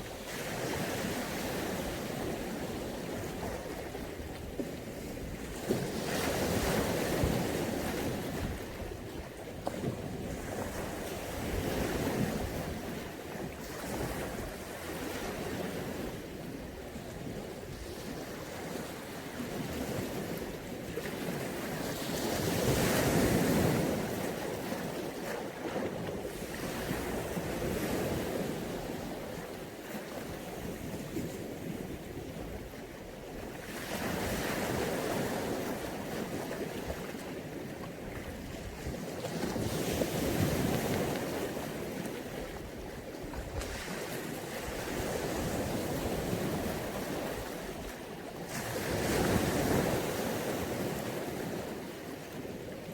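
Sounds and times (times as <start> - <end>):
sea waves washing on shore: 0.0 - 52.9.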